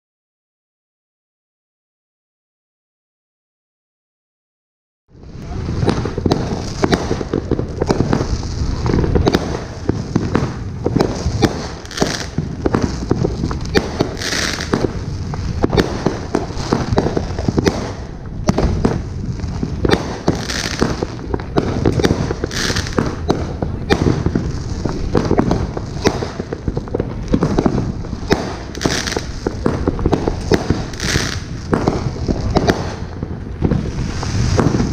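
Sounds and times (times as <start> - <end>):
fireworks shots and bursts: 5.2 - 34.9.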